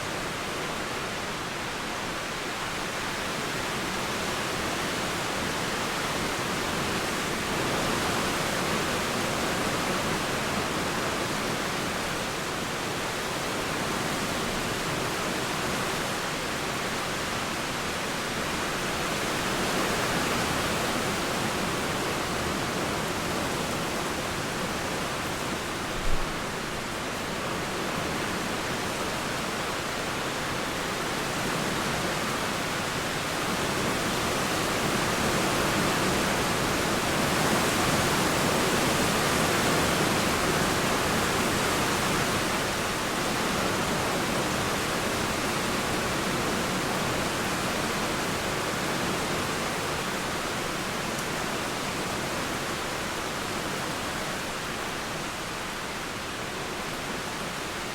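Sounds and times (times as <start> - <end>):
rain falling: 0.0 - 57.9
river flowing: 0.0 - 57.9.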